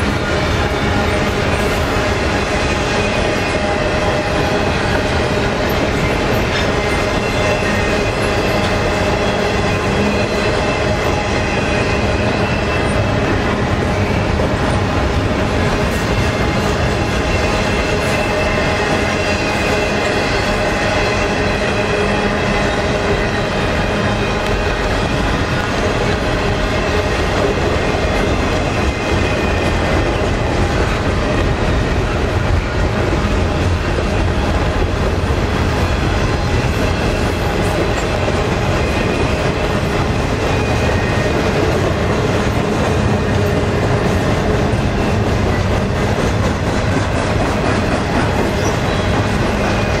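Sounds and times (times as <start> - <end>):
train wheels rumbling and clattering: 0.0 - 50.0.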